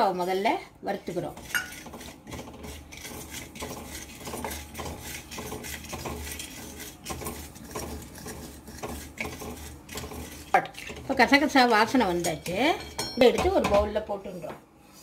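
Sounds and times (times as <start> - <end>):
wooden spatula scraping metal pan: 0.0 - 15.0.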